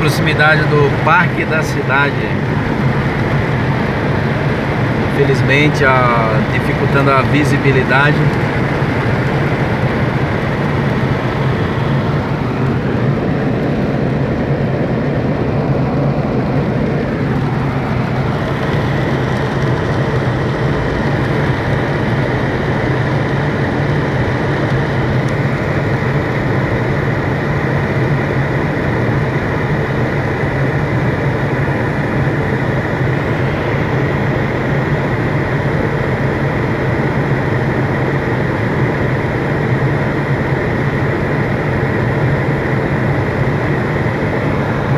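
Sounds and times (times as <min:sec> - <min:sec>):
low hum: 0:00.0 - 0:44.9.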